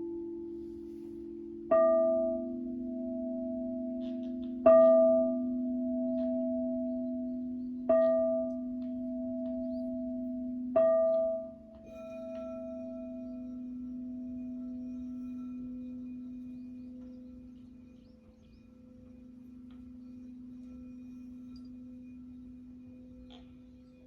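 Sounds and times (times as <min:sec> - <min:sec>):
low singing bowl drone: 0:00.0 - 0:24.0
singing bowl struck ringing: 0:01.7 - 0:24.0.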